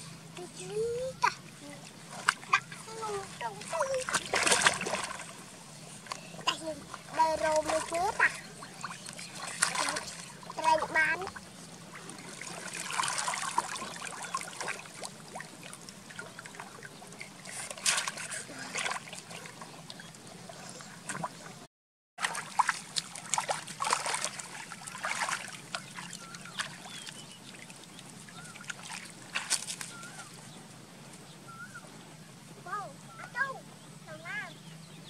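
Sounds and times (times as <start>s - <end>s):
water splashing from wading: 0.0s - 31.0s.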